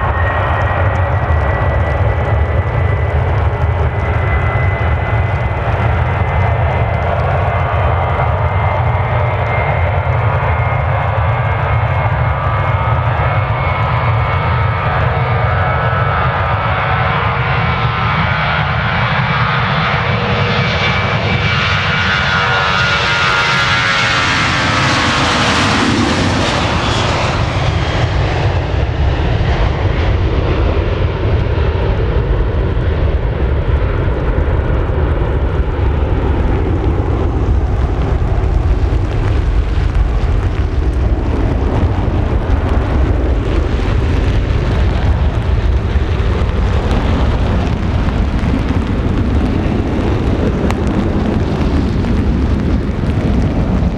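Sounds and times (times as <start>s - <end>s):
jet engine low rumble: 0.0s - 53.9s.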